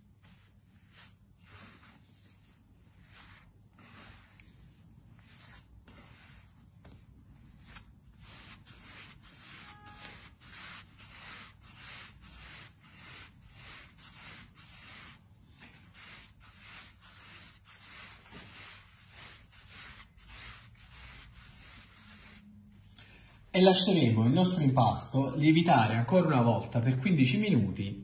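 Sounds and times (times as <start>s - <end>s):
hands rubbing dough on wooden board: 0.0s - 22.6s.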